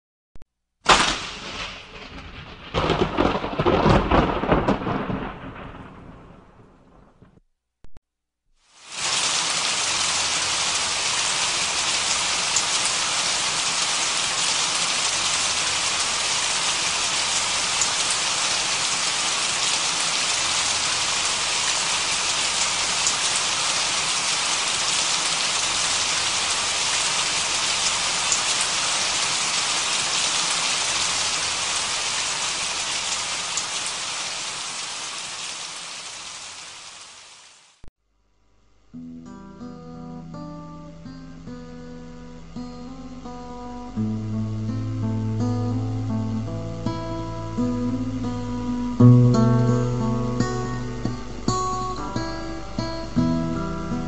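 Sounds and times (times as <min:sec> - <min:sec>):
steady rain falling: 0:00.9 - 0:07.3, 0:08.6 - 0:37.9, 0:42.5 - 0:54.0.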